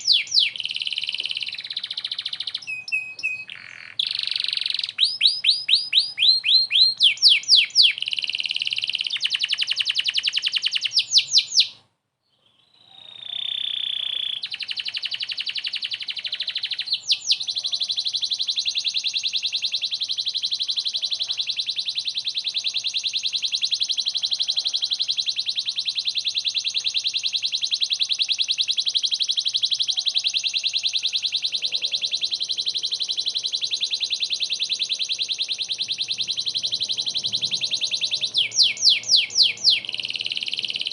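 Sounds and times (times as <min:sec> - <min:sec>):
canary trilling: 0:00.0 - 0:11.8, 0:12.4 - 0:40.9.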